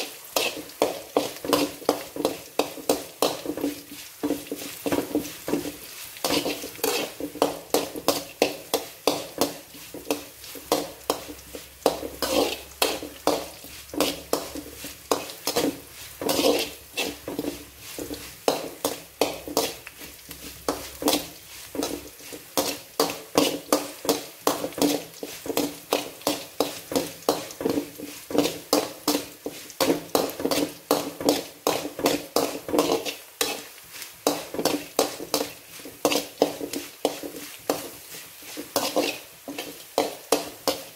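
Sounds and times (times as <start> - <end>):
food sizzling in oil: 0.0 - 40.9
metal spoon scraping a pan: 0.0 - 40.9.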